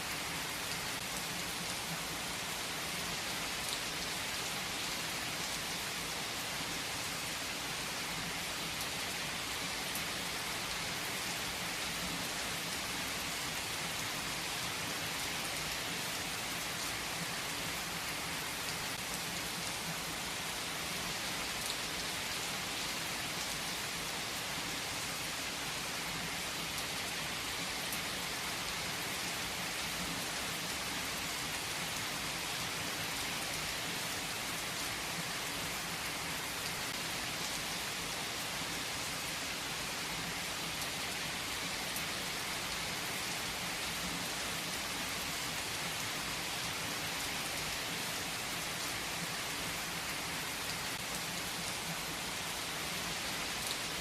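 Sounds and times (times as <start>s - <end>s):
rain pattering on a surface: 0.0s - 54.0s.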